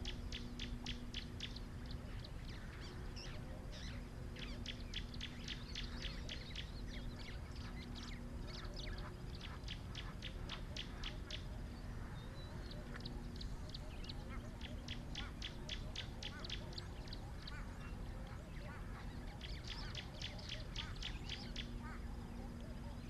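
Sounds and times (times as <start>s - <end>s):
low background noise: 0.0s - 23.0s
soft bird chirps: 0.0s - 23.0s.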